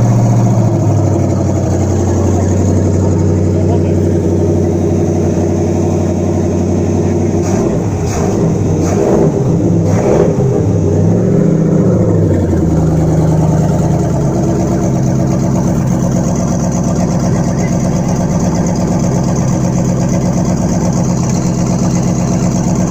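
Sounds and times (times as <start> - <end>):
boat engine revving and idling: 0.0 - 22.9.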